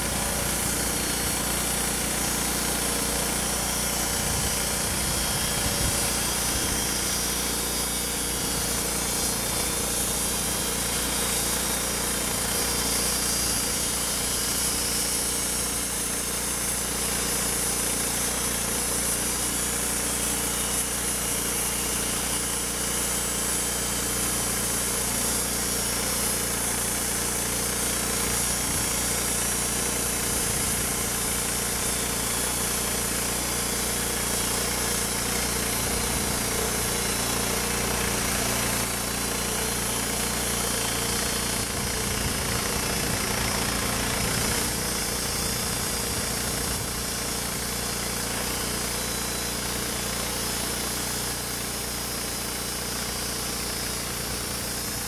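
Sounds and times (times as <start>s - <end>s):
band saw blade cutting log: 0.0s - 55.0s.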